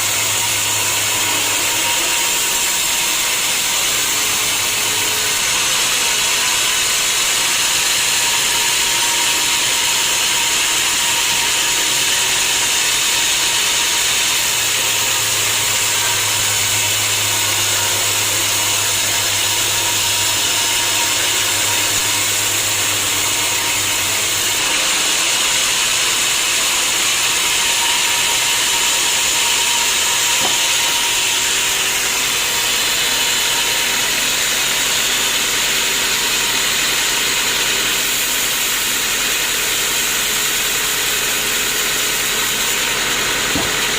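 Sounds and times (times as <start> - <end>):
sawmill saw cutting log: 0.0 - 43.9.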